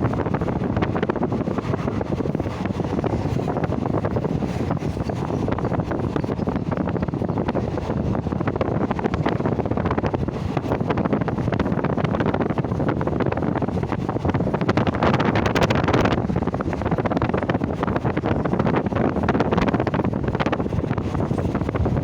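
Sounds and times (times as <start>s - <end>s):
moving train noise: 0.0s - 22.0s
wind buffeting microphone: 0.0s - 22.0s.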